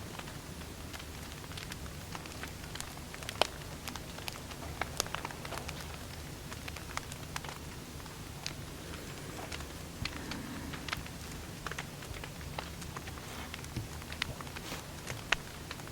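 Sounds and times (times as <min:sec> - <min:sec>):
fire low rumble: 0:00.0 - 0:15.9
firewood crackling and popping: 0:00.0 - 0:15.9.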